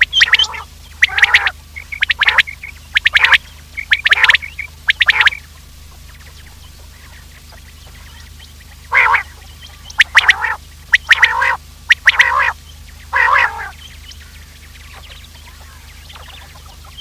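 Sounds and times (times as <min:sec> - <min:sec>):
faint low hum: 0:00.0 - 0:17.0
recorded quail calls: 0:00.0 - 0:17.0.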